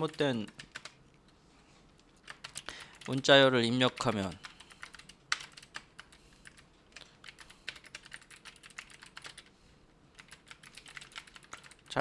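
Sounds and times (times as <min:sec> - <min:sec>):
computer keyboard typing: 0:00.0 - 0:01.0, 0:02.2 - 0:09.5, 0:10.1 - 0:12.0.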